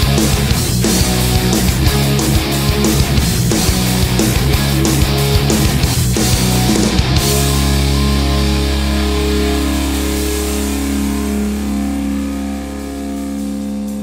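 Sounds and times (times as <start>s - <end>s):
punk rock band crash: 0.0s - 14.0s
ringing electric guitar and bass chord: 0.0s - 14.0s.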